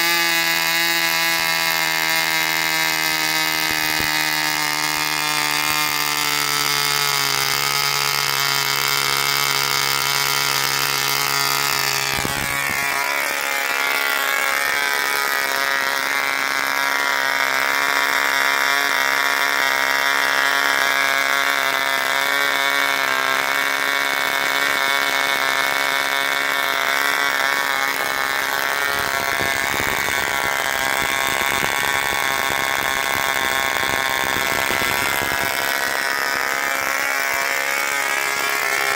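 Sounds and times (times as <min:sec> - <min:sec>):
model airplane engine buzzing: 0:00.0 - 0:38.9.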